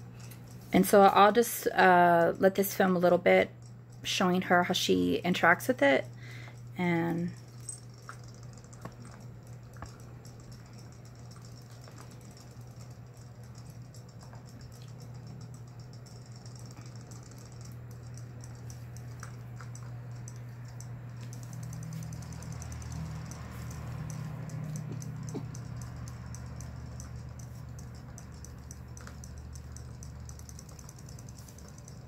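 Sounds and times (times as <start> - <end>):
steady low hum: 0.0 - 32.0
toy motors fast fine clicking: 0.0 - 32.0.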